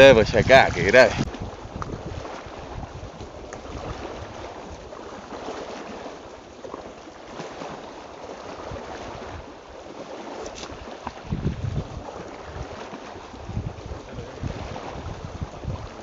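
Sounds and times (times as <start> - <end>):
wind on microphone: 0.0 - 6.0, 8.4 - 16.0
small waves lapping on rocks: 0.0 - 16.0.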